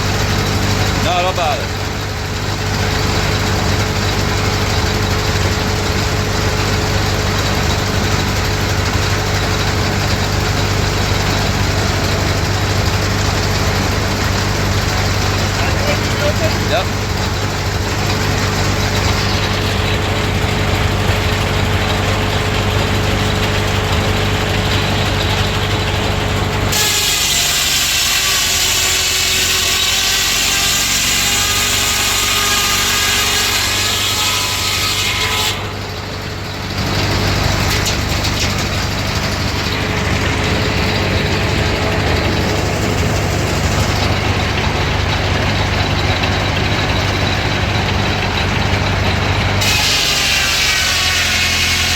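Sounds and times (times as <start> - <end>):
circular saw cutting wood: 0.0 - 22.1, 26.7 - 47.3, 48.2 - 51.9
engine running steadily: 0.0 - 27.4, 35.4 - 49.8.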